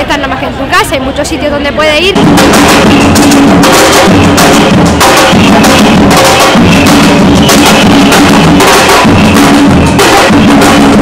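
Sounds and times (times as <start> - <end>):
loud music with drums: 2.1 - 11.0.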